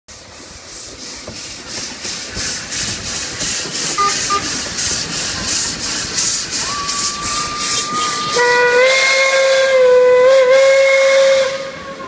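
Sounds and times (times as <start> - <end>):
steam locomotive chuffing: 0.1 - 12.0.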